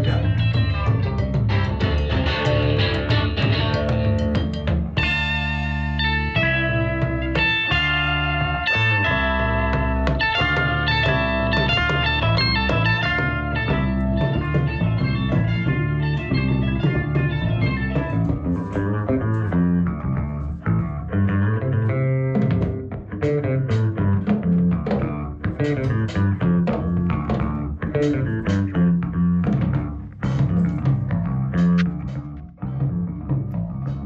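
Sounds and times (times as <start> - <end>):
guitar and bass music: 0.0 - 34.0.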